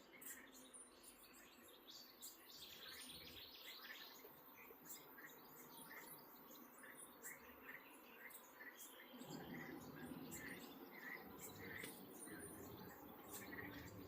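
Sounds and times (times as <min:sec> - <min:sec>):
faint bird chirping: 0:00.0 - 0:14.0
soft steady hiss: 0:00.0 - 0:14.0.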